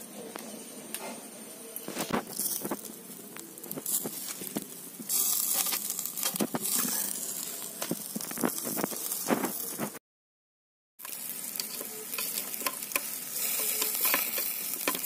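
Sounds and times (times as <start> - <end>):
charcoal crackles and pops: 1.8 - 10.0, 11.0 - 15.0
chicken sizzling over charcoal: 1.8 - 10.0, 11.0 - 15.0.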